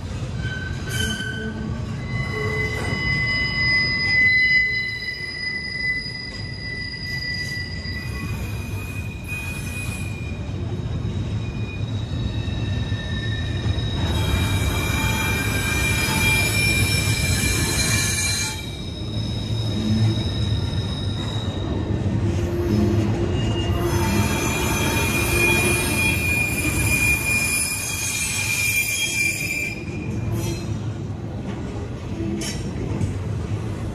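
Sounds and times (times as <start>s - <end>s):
freight train wheels rumbling: 0.0s - 33.9s
high-pitched wheel squeal: 0.2s - 30.8s.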